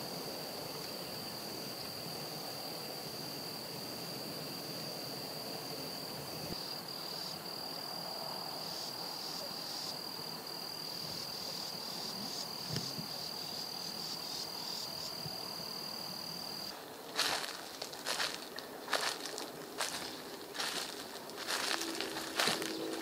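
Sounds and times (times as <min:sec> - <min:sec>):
cricket trilling: 0:00.0 - 0:23.0
insects buzzing: 0:00.0 - 0:23.0.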